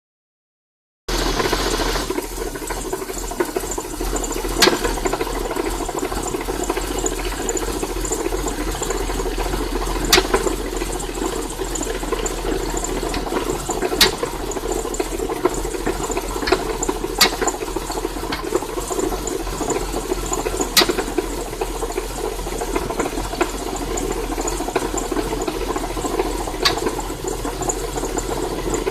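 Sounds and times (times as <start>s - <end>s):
car engine idling: 1.1s - 28.9s.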